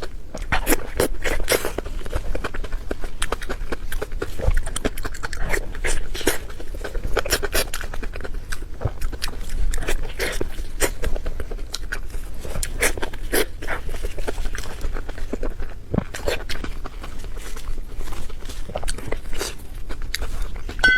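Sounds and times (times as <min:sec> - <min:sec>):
wet chewing and lip-smacking: 0:00.0 - 0:20.8.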